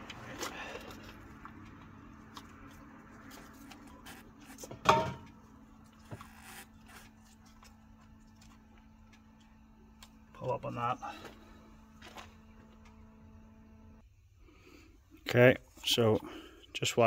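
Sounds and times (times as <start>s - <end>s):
low hum: 0.0s - 14.9s.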